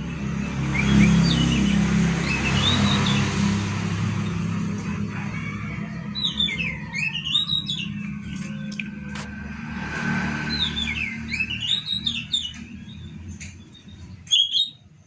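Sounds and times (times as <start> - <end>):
bird chirping: 0.0 - 4.9, 5.5 - 15.0
low engine hum: 0.0 - 14.3.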